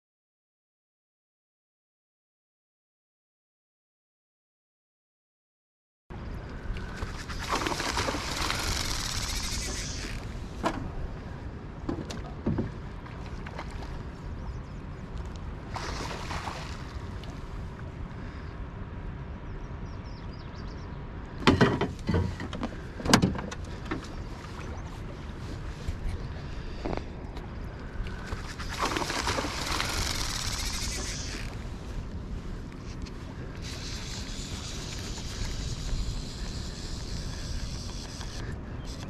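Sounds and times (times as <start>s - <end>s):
wind rumble on microphone: 6.1s - 39.0s.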